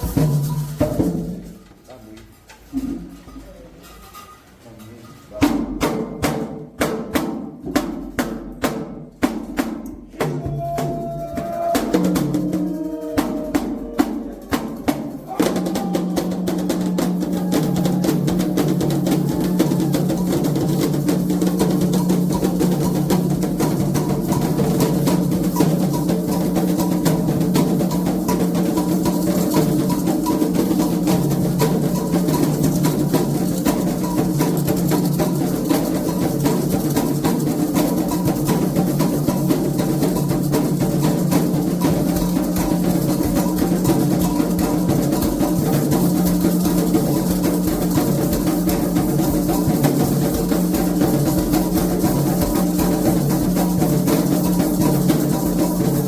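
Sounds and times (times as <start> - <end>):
hand drums playing: 0.0 - 1.7, 5.4 - 56.0.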